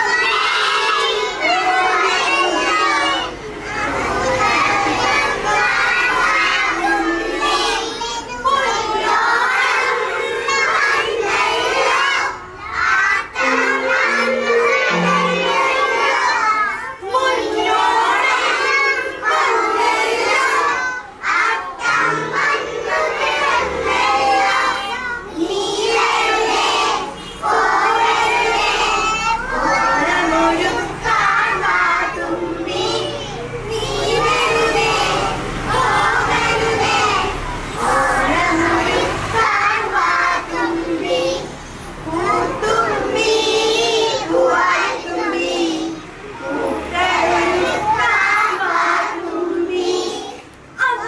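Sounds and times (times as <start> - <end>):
children calling out together: 0.0 - 51.0.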